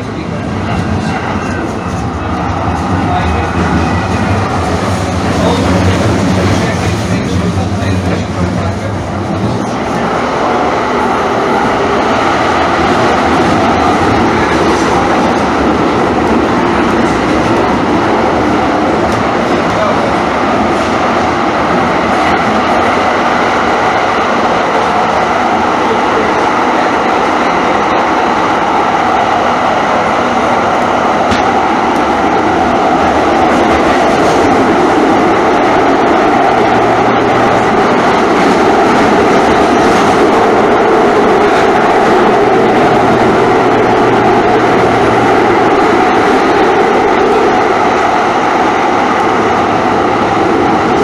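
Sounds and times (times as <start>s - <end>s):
train wheels rumbling on track: 0.0s - 51.0s.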